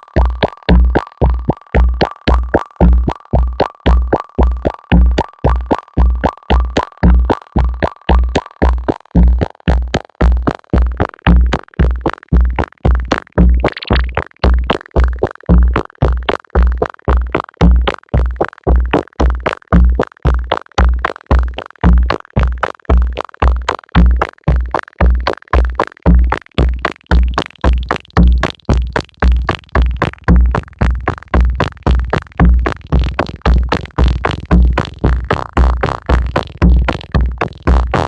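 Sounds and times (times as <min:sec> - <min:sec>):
synthesizer bass pulse: 0:00.0 - 0:20.5, 0:23.0 - 0:38.0.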